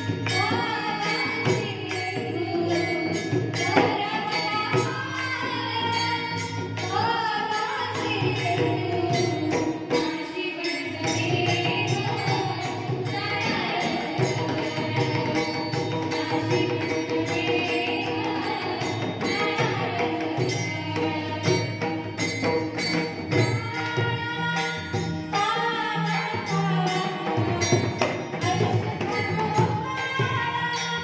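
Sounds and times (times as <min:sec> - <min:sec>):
jingling hand cymbals: 0:00.0 - 0:31.0
person singing devotional song: 0:00.0 - 0:31.0.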